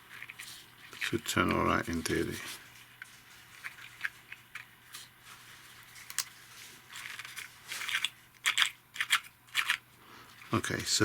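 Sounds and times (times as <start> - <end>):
card and paper crunching: 0.1 - 9.8.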